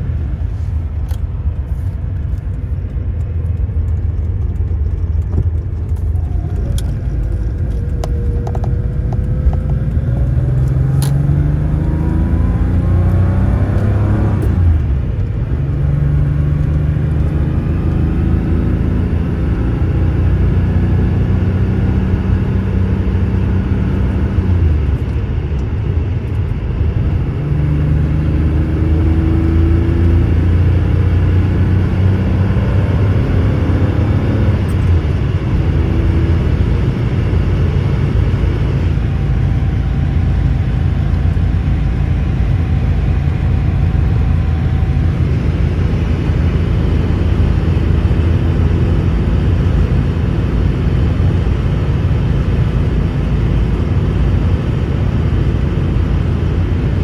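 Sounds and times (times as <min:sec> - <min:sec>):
car engine pulling: 0:00.0 - 0:57.0
road rumble: 0:00.0 - 0:57.0.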